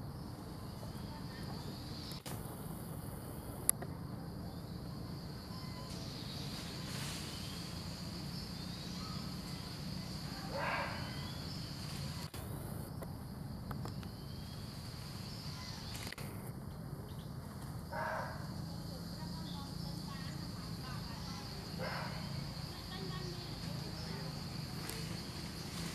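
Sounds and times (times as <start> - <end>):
high insect drone: 0.0 - 25.9.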